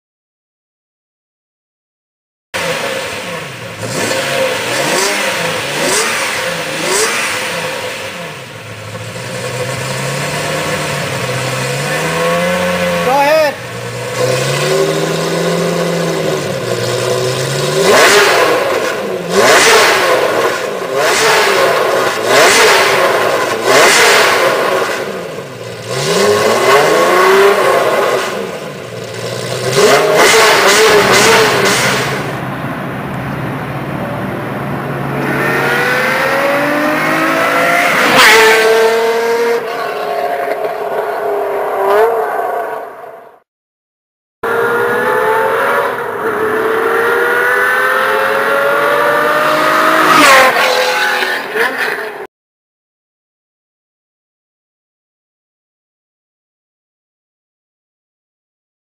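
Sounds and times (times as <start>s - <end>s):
sports car engine revving: 2.6s - 42.8s, 44.4s - 52.2s.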